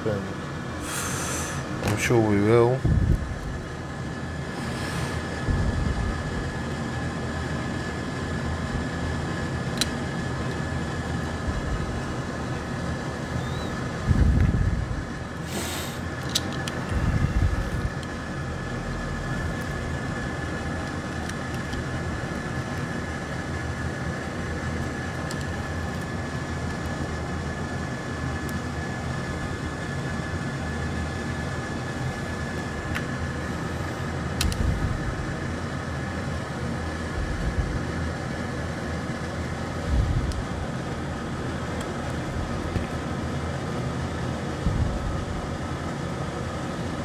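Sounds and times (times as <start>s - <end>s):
mechanical whir with high whine: 0.0s - 47.0s.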